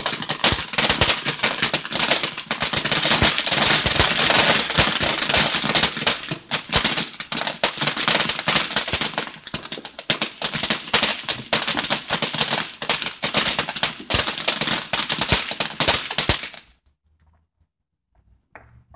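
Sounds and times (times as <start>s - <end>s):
firework hissing and crackling: 0.0s - 16.7s.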